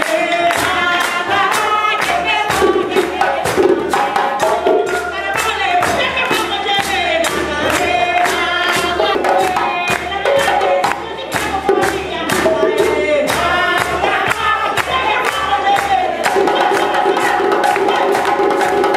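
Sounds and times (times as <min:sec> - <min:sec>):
djembe drums: 0:00.0 - 0:18.9
voices singing together: 0:00.0 - 0:18.9.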